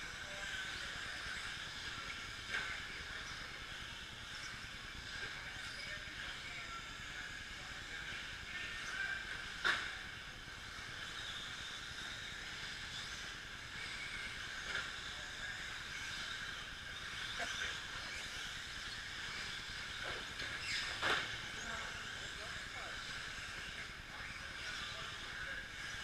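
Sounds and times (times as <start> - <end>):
rc truck motor whine: 0.0 - 26.0.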